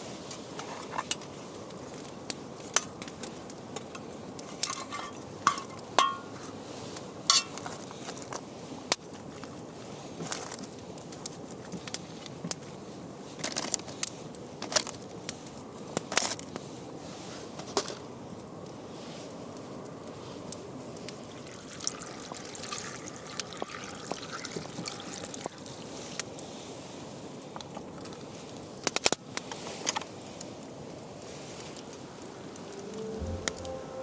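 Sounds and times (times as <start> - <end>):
steady low hiss: 0.0 - 21.8, 25.7 - 34.0
campfire crackling: 0.0 - 34.0.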